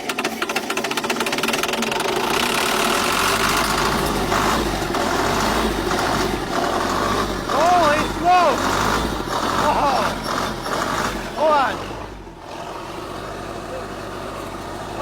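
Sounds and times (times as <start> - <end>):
bulldozer engine knocking: 0.0 - 15.0.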